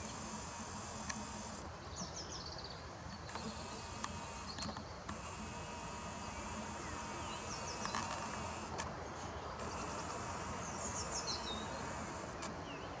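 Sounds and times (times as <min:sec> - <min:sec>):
small birds chirping: 0:00.0 - 0:13.0
steady high-pitched whine: 0:00.0 - 0:13.0.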